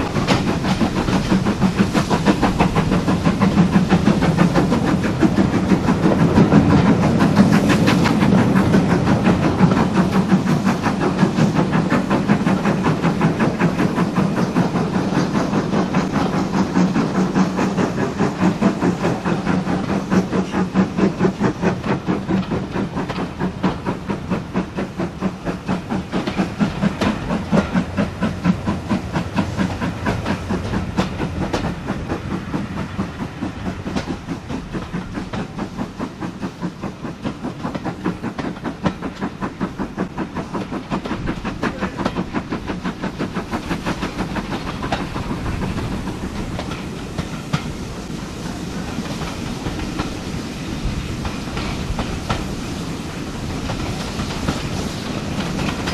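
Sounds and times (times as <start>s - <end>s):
train wheels clicking over rail joints: 0.0s - 55.9s.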